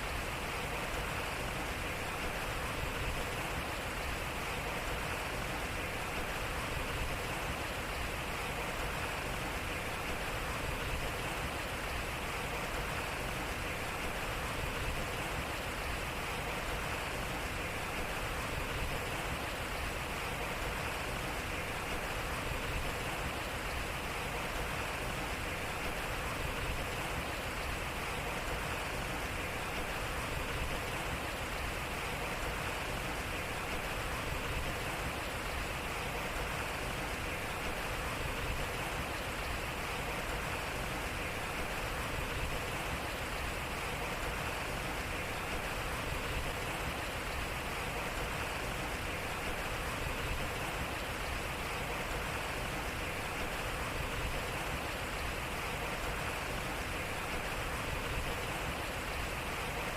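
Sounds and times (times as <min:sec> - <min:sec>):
water rushing over water wheel: 0:00.0 - 0:59.9.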